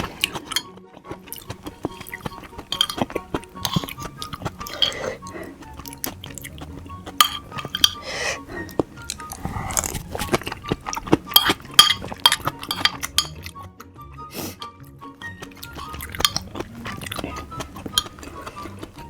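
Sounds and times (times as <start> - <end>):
utensils clinking against dishes: 0.0 - 13.5, 15.4 - 19.0
wet mouth sounds: 0.0 - 13.6, 14.3 - 19.0
soft background music: 0.0 - 19.0.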